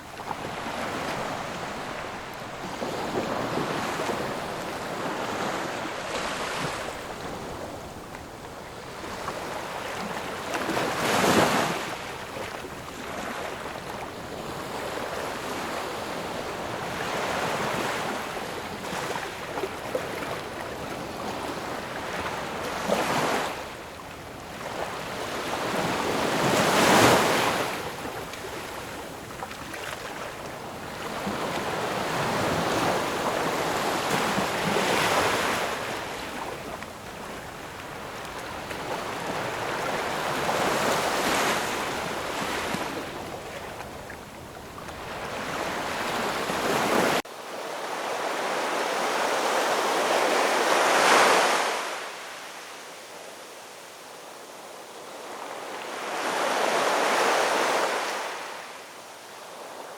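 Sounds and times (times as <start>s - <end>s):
ocean waves breaking: 0.0s - 8.0s, 8.8s - 52.5s.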